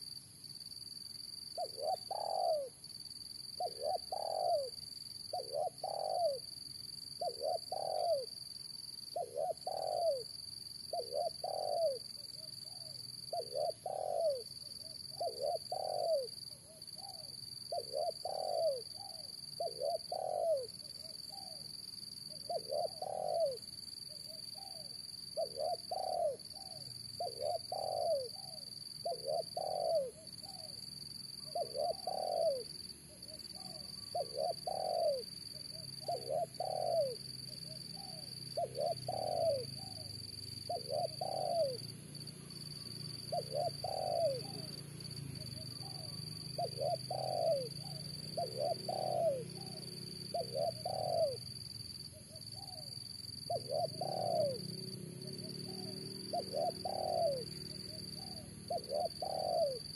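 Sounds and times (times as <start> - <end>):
dove cooing: 1.5 - 2.9, 3.5 - 6.5, 7.1 - 8.4, 9.1 - 59.9.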